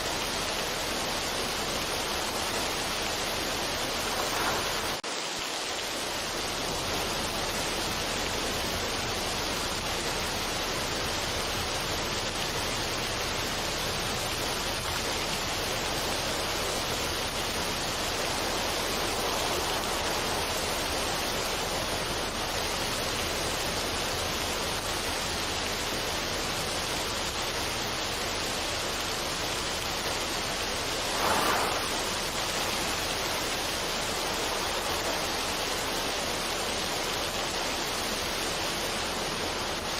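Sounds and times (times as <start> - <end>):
steady rushing water: 0.0 - 39.9.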